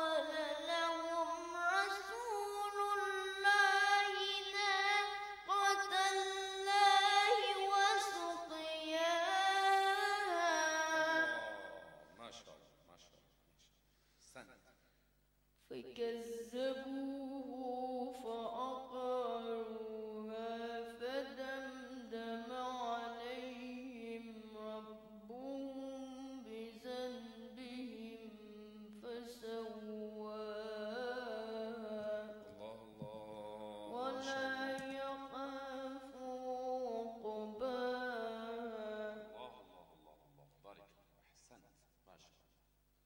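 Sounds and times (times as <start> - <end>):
boy chanting into a microphone: 0.0 - 11.8, 15.7 - 39.7.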